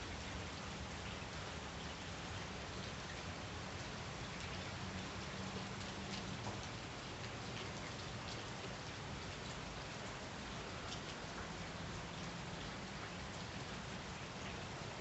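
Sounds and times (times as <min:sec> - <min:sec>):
rain splashing into puddles: 0:00.0 - 0:15.0.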